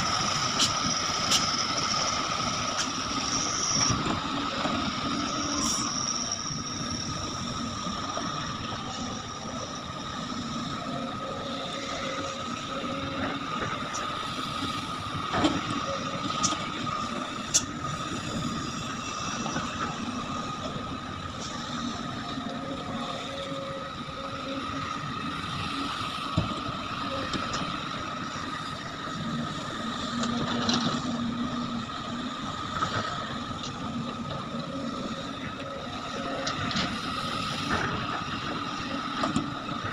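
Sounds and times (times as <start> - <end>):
constant high tone: 0.0 - 39.9.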